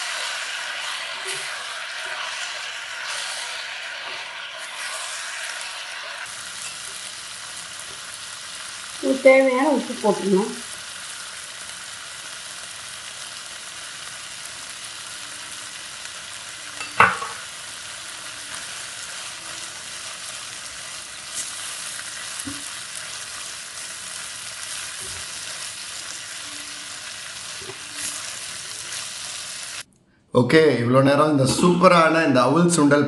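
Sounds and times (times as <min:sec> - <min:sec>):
beans and onions sizzling: 0:00.0 - 0:29.9.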